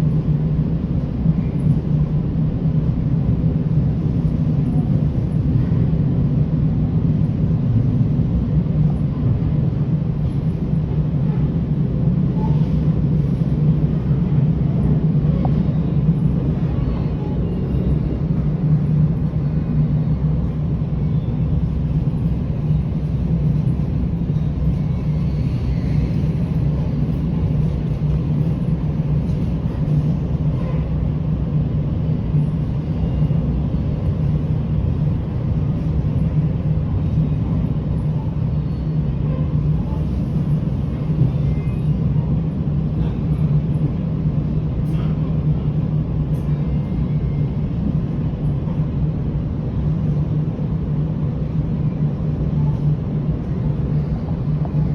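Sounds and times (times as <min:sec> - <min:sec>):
train rumbling along track: 0:00.0 - 0:54.9.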